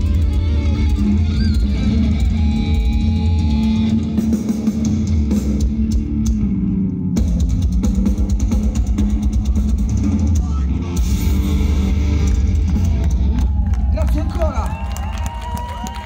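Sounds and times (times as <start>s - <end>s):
metal band playing live: 0.0s - 14.7s.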